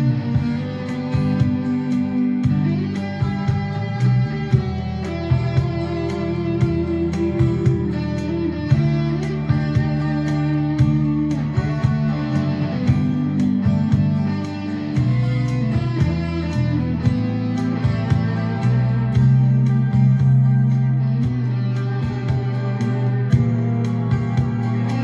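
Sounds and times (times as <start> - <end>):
electric guitar lead melody: 0.0 - 25.0
light beat: 0.0 - 25.0.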